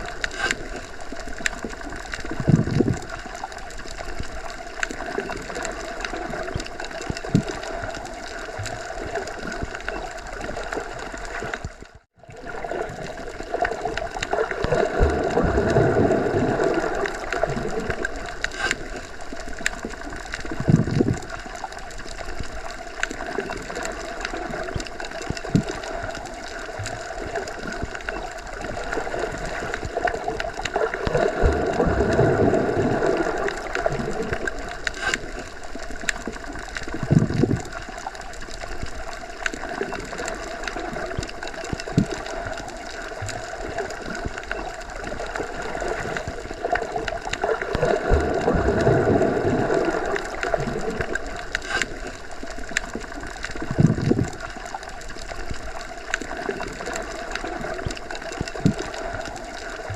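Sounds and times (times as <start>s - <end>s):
low water surges: 0.0s - 59.9s
muffled underwater water rush: 0.0s - 59.9s.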